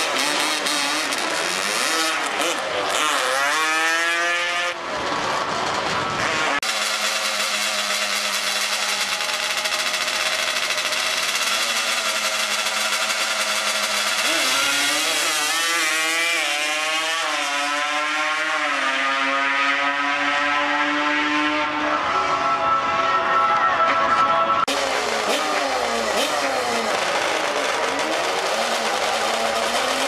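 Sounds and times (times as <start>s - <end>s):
atv engine running hard: 0.0s - 19.1s, 24.7s - 30.0s.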